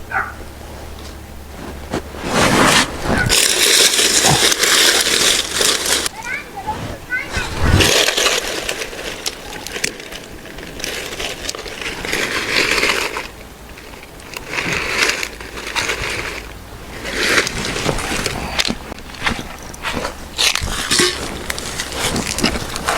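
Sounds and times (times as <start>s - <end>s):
crunching: 0.0s - 22.9s.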